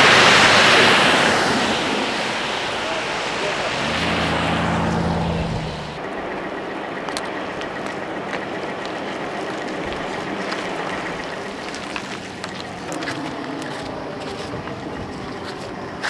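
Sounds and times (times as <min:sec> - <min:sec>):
road noise on wet street: 0:00.0 - 0:16.0
wind: 0:00.0 - 0:16.0
low engine hum: 0:00.2 - 0:16.0.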